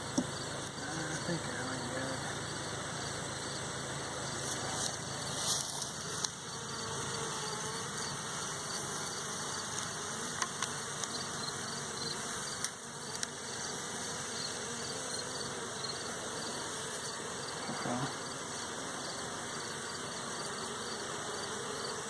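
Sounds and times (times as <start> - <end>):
honey bees buzzing: 0.0 - 22.0.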